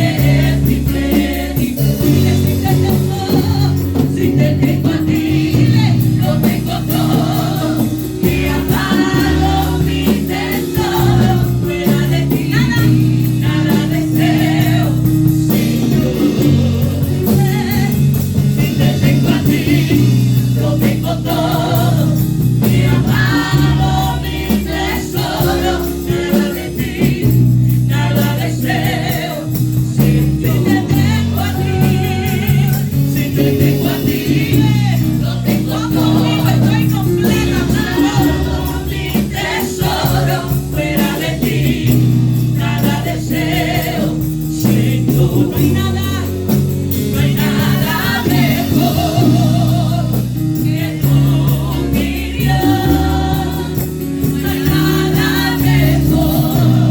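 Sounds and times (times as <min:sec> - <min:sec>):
band playing: 0:00.0 - 0:56.9
group of singers: 0:00.0 - 0:56.9.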